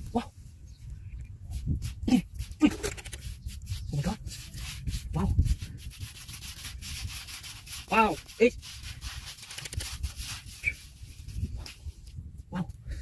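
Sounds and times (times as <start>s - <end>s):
fingers digging through wet sand: 1.5s - 12.0s.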